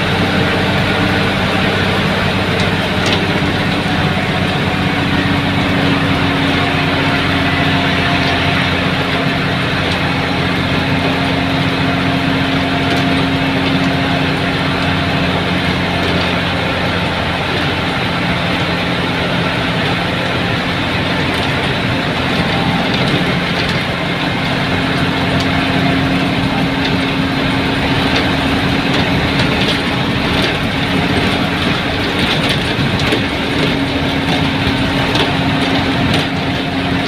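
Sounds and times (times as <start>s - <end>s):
bus engine drone: 0.0s - 37.0s.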